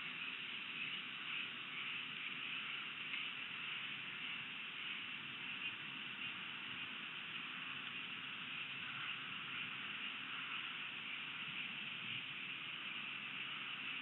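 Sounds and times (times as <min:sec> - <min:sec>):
even hiss: 0:00.0 - 0:14.0
faint low rumble: 0:00.0 - 0:14.0.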